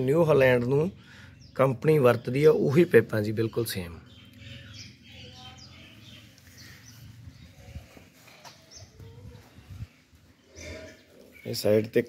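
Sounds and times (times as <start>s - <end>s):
high bird chirp: 1.0s - 11.7s.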